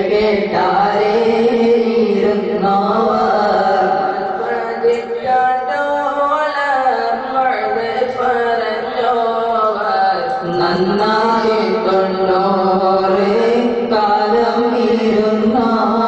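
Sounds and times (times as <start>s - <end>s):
boys chanting devotional recitation: 0.0s - 16.0s.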